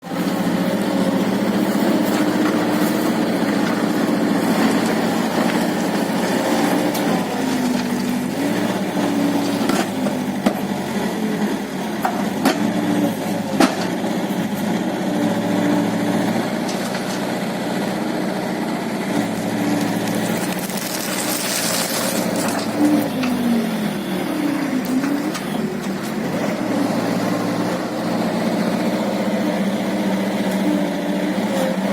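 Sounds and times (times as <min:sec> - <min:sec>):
loader engine running: 0:00.0 - 0:31.9.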